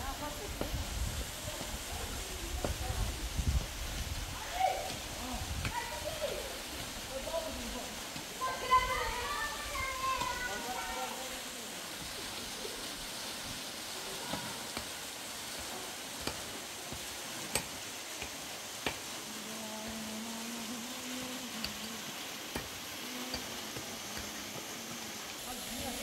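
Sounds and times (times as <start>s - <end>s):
waterfall and stream rushing: 0.0s - 26.0s.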